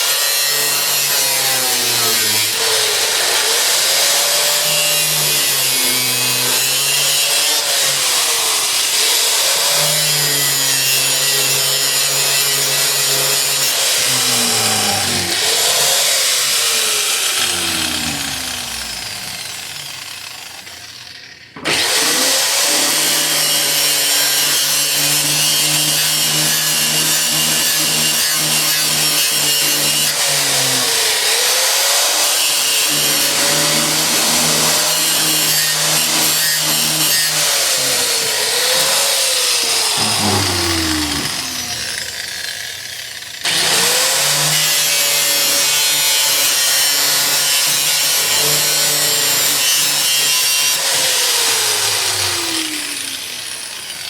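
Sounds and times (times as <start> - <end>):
electric grinder on sheet metal: 0.0 - 54.0.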